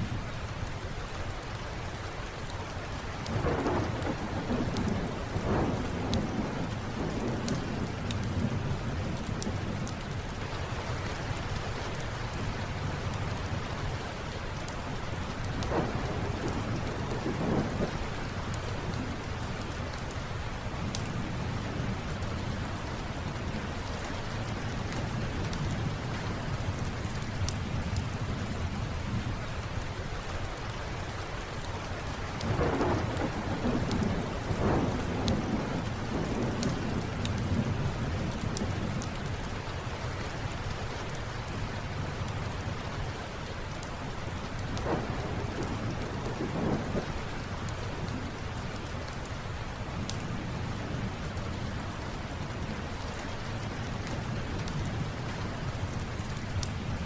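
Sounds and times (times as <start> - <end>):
steady rain: 0.0 - 57.0
wood fire crackling: 2.2 - 28.6, 29.6 - 57.0
low rumble of thunder: 3.2 - 29.5, 32.2 - 43.8, 44.4 - 48.9, 53.6 - 57.0.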